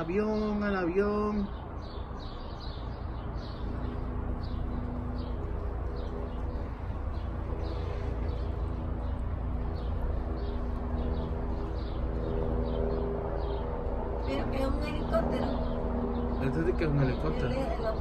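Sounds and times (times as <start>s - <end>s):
jet airliner rumble: 0.0s - 18.0s.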